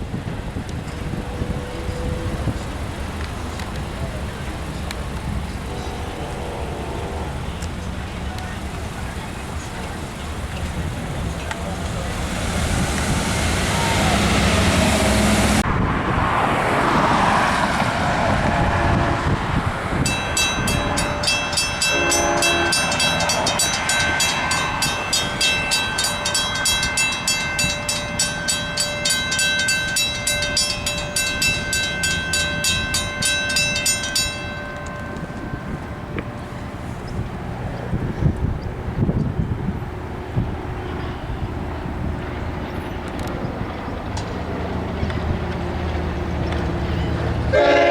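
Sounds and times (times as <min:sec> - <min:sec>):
train passing: 0:00.0 - 0:47.9
crossing warning bell ringing: 0:00.8 - 0:15.6, 0:17.1 - 0:47.9.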